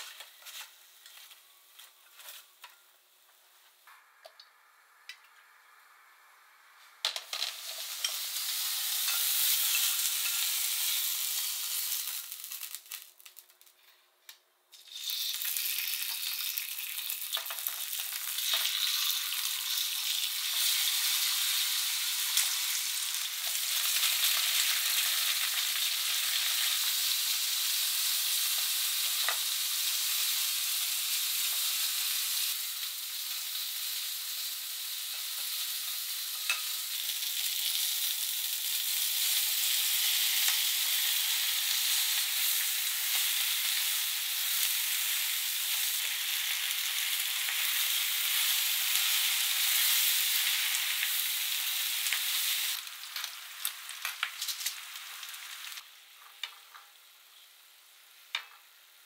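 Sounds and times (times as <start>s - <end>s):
meat frying in a pan: 0.0s - 1.4s, 7.0s - 13.6s, 14.7s - 59.0s
food sizzling in hot oil: 0.0s - 2.6s, 4.5s - 13.7s, 14.7s - 59.0s.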